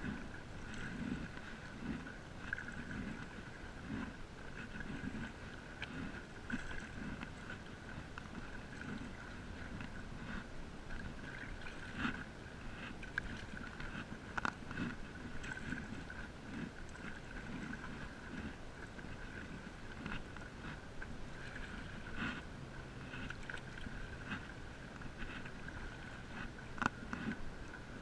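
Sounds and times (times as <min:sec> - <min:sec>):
paddle splashing through water: 0:00.0 - 0:28.0.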